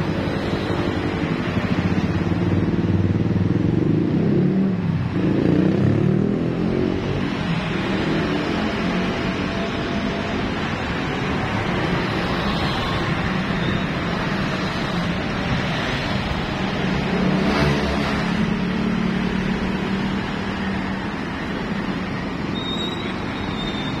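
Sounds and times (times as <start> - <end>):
road traffic: 0.0 - 24.0.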